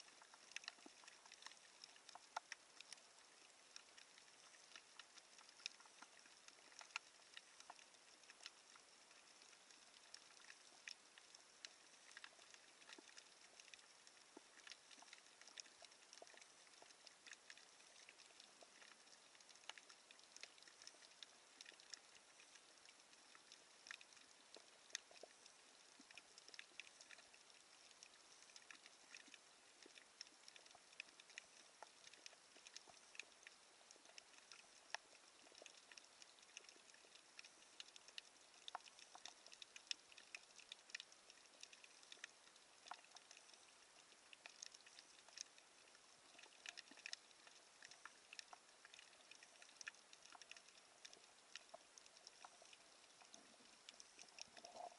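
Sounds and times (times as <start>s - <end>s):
low hiss: 0.0s - 54.9s
underwater crackle clicks: 0.0s - 54.9s.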